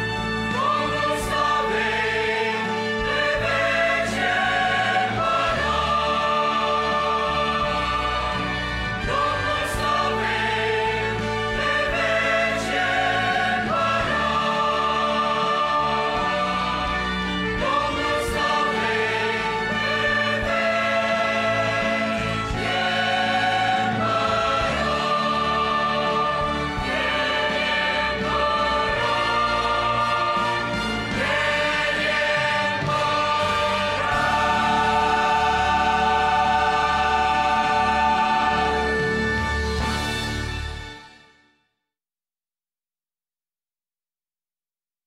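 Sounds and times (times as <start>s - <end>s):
mixed choir singing a hymn: 0.0s - 40.4s.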